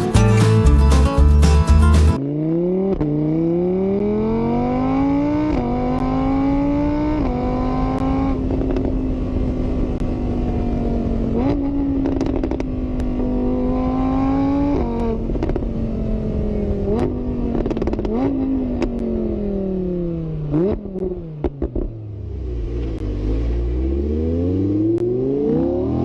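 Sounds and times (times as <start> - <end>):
engine speeding up: 0.0 - 26.0.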